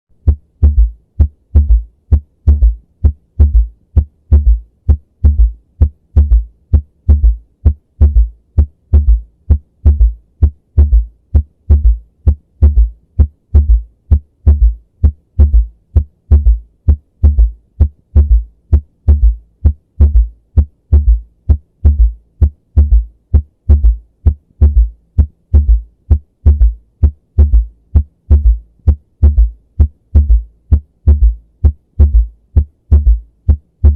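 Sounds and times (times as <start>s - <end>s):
heartbeat through stethoscope: 0.1s - 33.9s.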